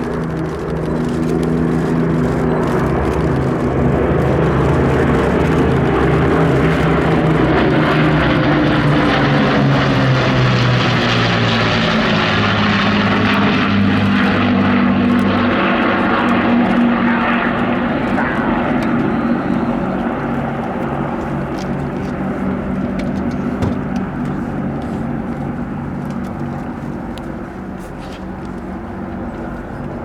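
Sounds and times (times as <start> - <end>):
propeller planes flying by: 0.0 - 30.0.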